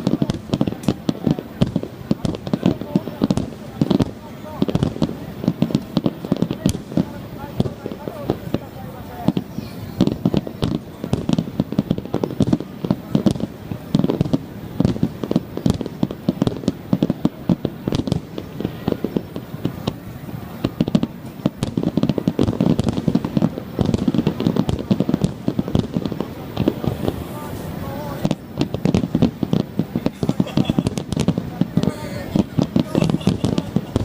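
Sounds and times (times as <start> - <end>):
fireworks bursting: 0.0 - 34.0
fireworks crackling: 0.0 - 34.0.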